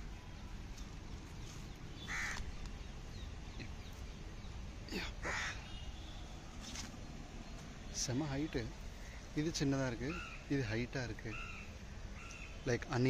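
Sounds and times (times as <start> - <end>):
bird calling: 1.4 - 13.0.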